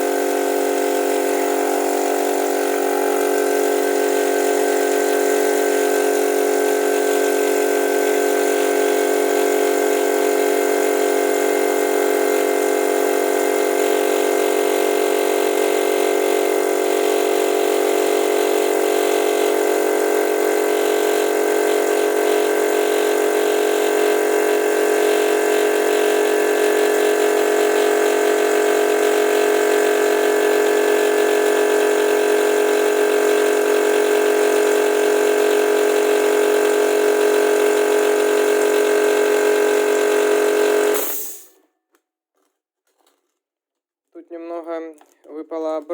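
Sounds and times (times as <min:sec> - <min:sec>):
air compressor running: 0:00.0 - 0:41.6.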